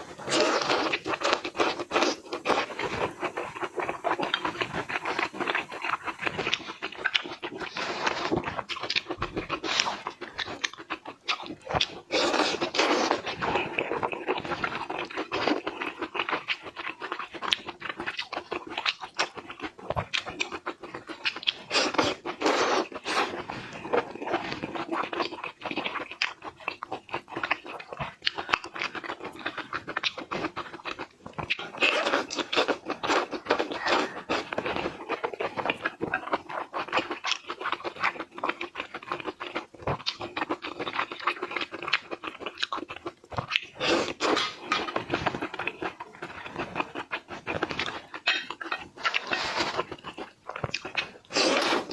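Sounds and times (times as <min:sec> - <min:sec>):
person chewing and crunching food: 0:00.0 - 0:51.9.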